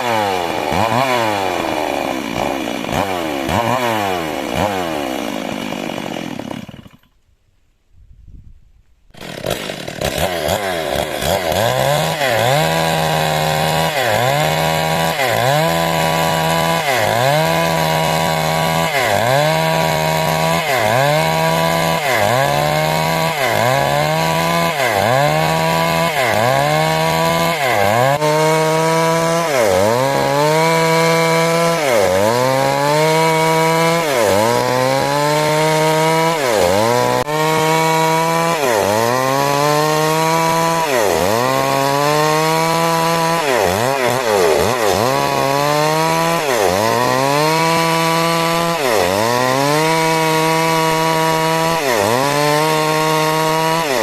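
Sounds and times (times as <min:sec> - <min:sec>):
chainsaw cutting wood: 0:00.0 - 0:07.3, 0:09.1 - 0:54.0.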